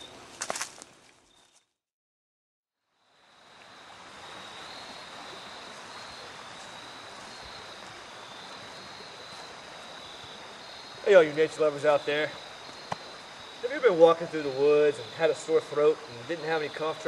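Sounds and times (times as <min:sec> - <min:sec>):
faint high insect trill: 0:02.8 - 0:17.0
flowing creek rushing: 0:03.1 - 0:17.0.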